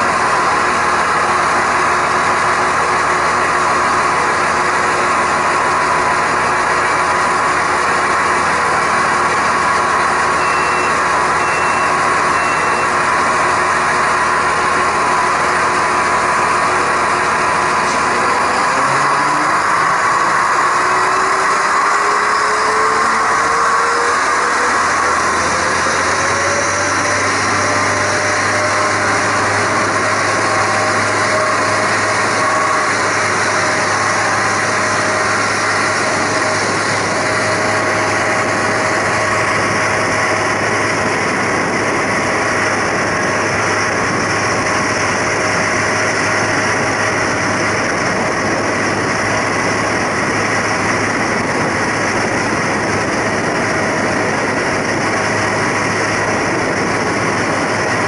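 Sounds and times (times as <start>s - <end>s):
diesel railcar engine hum: 0.0s - 58.0s
rising whine: 0.0s - 58.0s.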